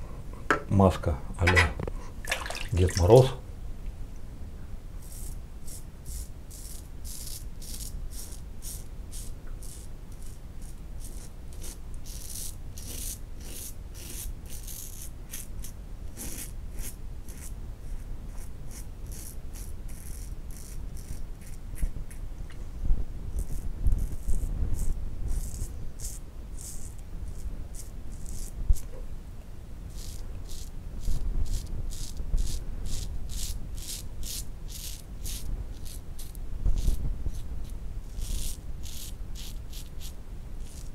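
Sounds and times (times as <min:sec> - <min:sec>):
razor scraping stubble: 0:05.0 - 0:22.2, 0:23.3 - 0:28.9, 0:29.9 - 0:40.9.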